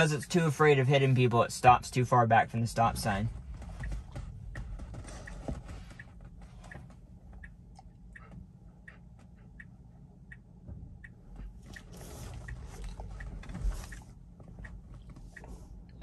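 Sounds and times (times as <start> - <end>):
low cabin hum: 0.0 - 16.0
turn signal ticking: 0.0 - 16.0.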